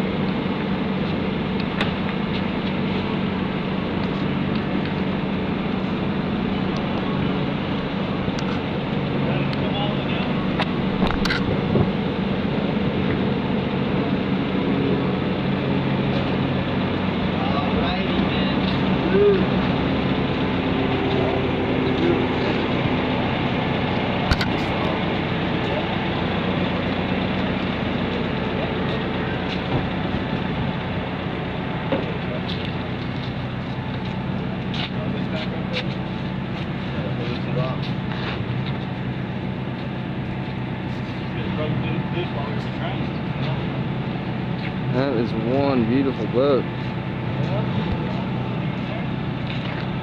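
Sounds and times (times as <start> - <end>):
forklift engine running: 0.0 - 50.0.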